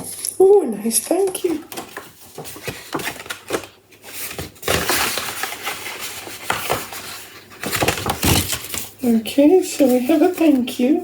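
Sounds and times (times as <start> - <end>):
paper rustling and crinkling: 1.1 - 11.0.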